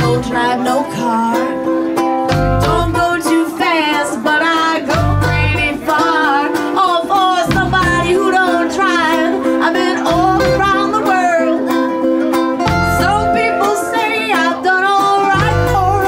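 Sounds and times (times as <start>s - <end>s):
woman singing: 0.0s - 11.9s, 12.7s - 16.0s
electric bass guitar: 0.0s - 16.0s
ukulele strumming: 0.0s - 16.0s.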